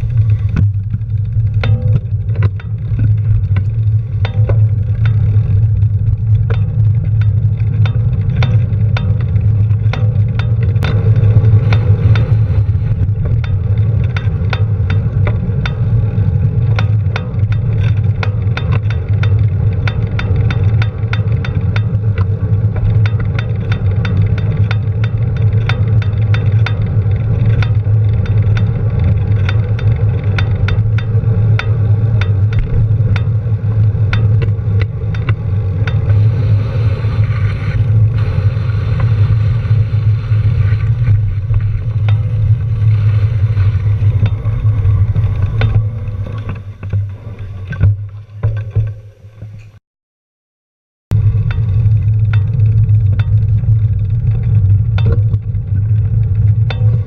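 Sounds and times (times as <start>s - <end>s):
fast regular ticking: 0.0s - 47.5s, 51.1s - 57.0s
vehicle engine droning: 0.0s - 49.8s, 51.1s - 57.0s.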